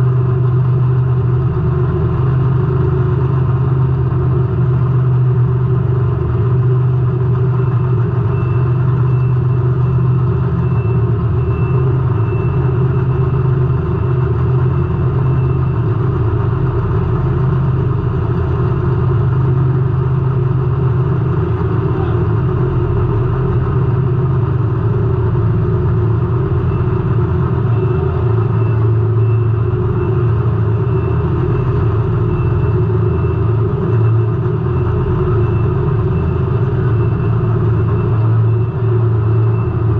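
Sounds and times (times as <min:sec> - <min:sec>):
race car engine running: 0:00.0 - 0:39.9.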